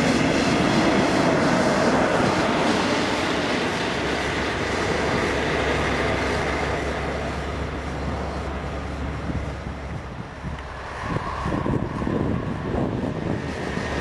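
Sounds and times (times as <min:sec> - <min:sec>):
electric locomotive hum: 0:00.0 - 0:14.0
train rolling past: 0:00.0 - 0:14.0.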